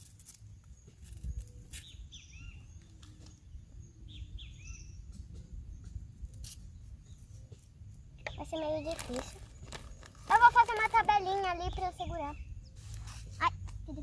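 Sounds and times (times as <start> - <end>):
birds chirping: 0.4 - 14.0.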